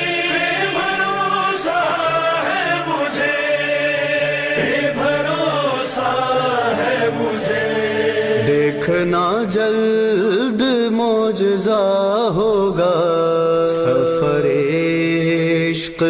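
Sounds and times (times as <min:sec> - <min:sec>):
voices chanting a lament: 0:00.0 - 0:16.0.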